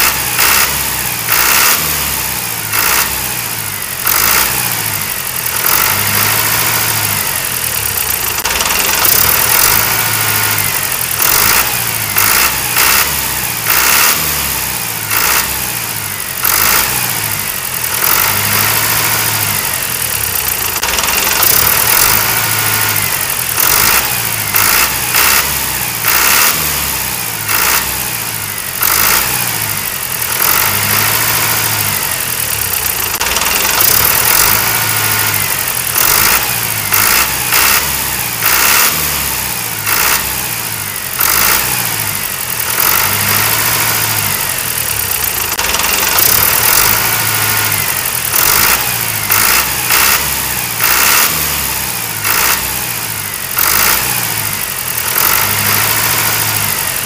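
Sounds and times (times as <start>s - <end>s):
diesel tractor engine chugging: 0.0s - 57.0s.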